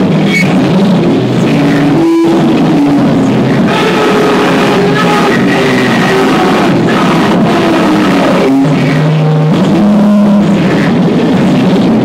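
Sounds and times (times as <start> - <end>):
distorted noise music: 0.0 - 12.0
strong low drone: 0.0 - 12.0.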